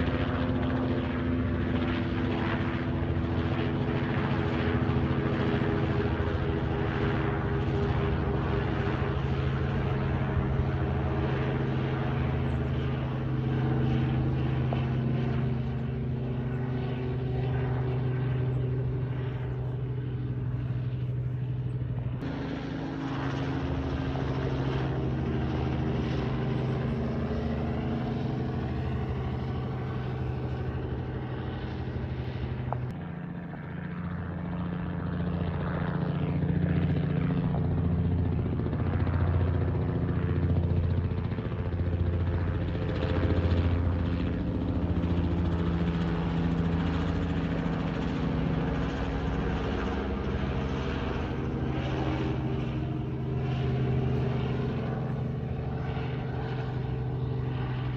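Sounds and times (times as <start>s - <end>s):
helicopter rotor and engine drone: 0.0s - 57.9s.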